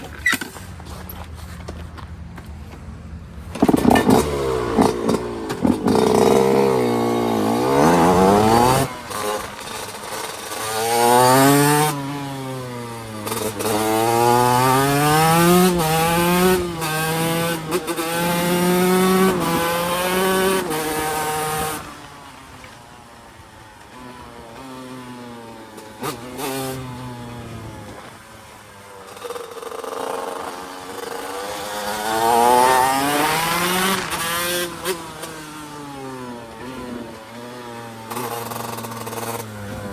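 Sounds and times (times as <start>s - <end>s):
two-stroke engine accelerating: 3.5s - 39.9s.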